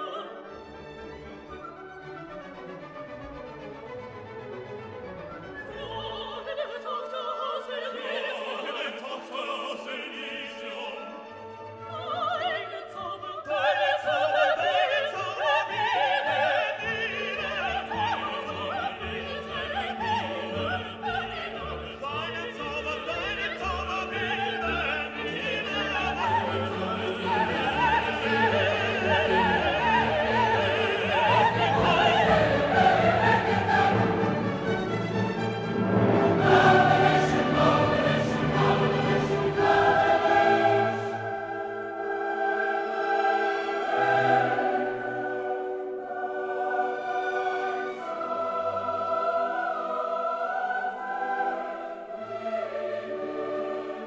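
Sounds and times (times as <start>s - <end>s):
operatic singing: 0.0s - 2.9s, 4.9s - 54.0s
classical orchestral music: 0.0s - 54.0s.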